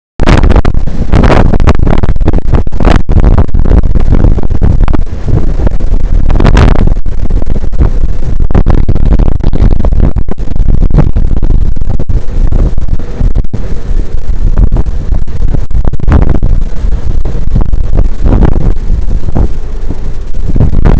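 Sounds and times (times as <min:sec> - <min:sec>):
wind buffeting microphone: 0:00.2 - 0:20.9.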